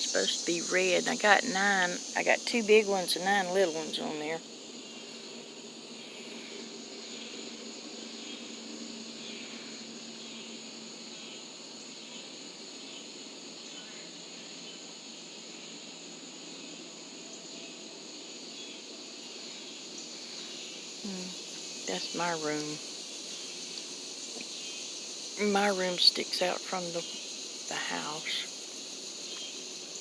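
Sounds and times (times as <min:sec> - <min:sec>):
cicadas buzzing: 0:00.0 - 0:30.0.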